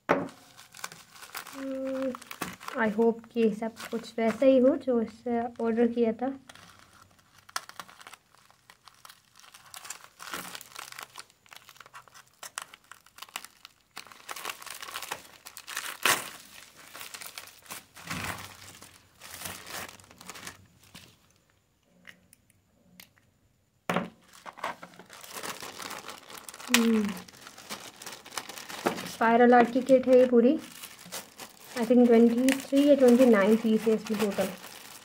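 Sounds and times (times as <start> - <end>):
plastic wrapping crinkling: 0.3 - 21.5, 24.1 - 35.0
plastic mailer tearing: 0.4 - 4.6, 6.4 - 21.2, 24.2 - 35.0.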